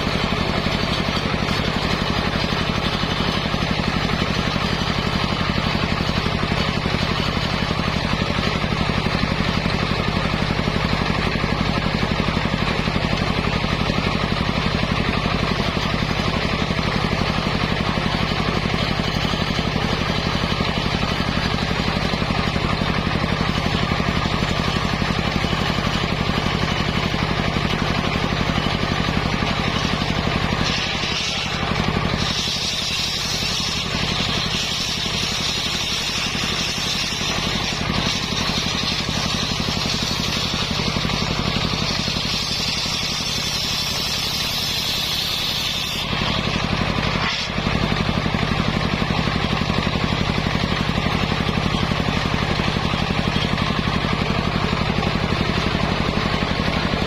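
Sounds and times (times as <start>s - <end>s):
circular saw blade whine: 0.0s - 49.6s
sawmill engine running: 0.0s - 57.0s.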